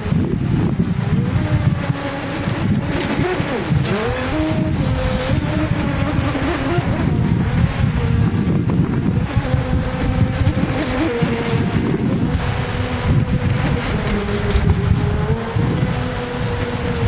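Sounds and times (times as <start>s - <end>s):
electric motors whining: 0.0s - 17.0s
wind on microphone: 0.0s - 17.0s.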